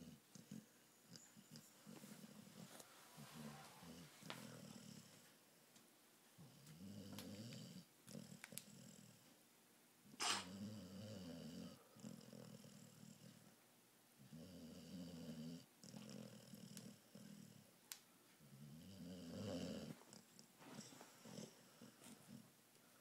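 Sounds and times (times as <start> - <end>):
dog snoring: 0.0 - 5.3, 6.4 - 9.2, 10.2 - 13.5, 14.2 - 17.7, 18.4 - 22.4.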